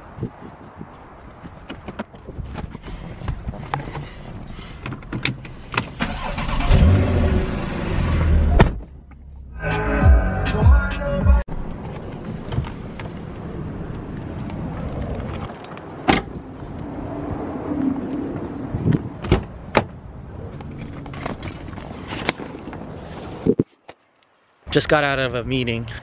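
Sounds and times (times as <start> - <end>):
outdoor traffic noise: 0.0 - 26.0.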